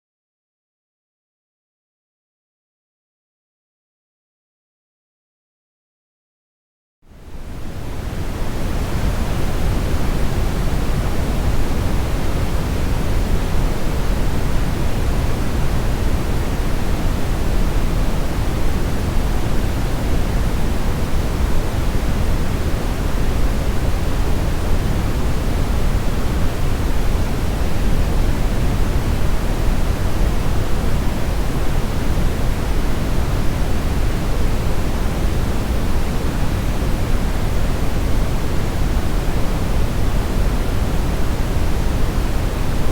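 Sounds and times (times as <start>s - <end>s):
deep brown noise hiss: 7.1s - 42.9s.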